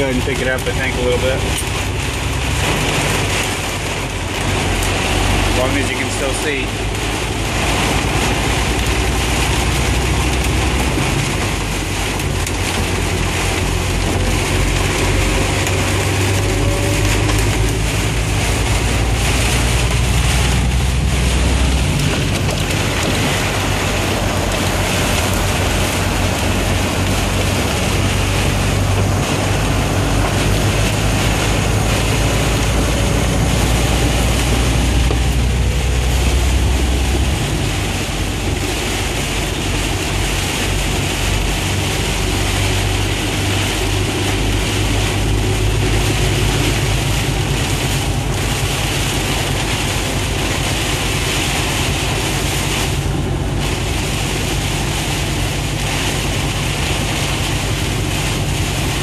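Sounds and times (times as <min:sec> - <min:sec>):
rain and hail on vehicle roof: 0:00.0 - 0:59.0
vehicle driving on wet road: 0:00.0 - 0:59.0.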